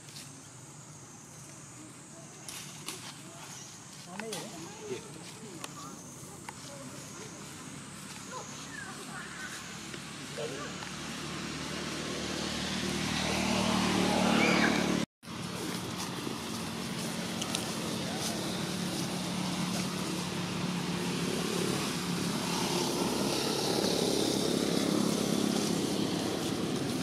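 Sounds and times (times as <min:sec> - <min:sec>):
motor engine humming: 0:04.7 - 0:27.0.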